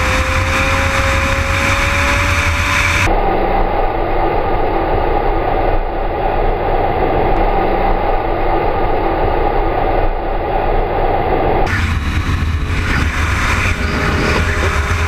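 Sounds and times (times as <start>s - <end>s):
motorcycle at highway speed: 0.0s - 15.0s.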